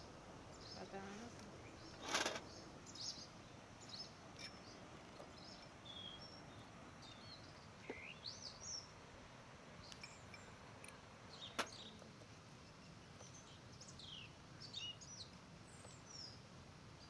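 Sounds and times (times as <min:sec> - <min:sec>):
faint outdoor ambience: 0:00.0 - 0:17.0
small birds chirping: 0:00.0 - 0:17.0.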